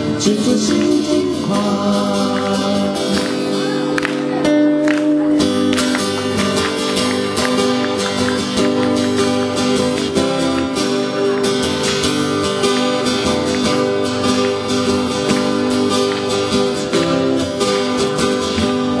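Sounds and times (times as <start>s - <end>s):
acoustic guitars strumming: 0.0s - 19.0s.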